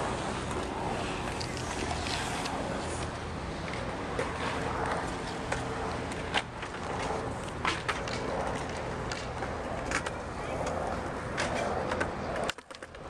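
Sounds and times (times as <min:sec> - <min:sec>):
skateboard wheels rolling on concrete: 0:00.0 - 0:13.0
skateboard clacks: 0:00.5 - 0:13.0.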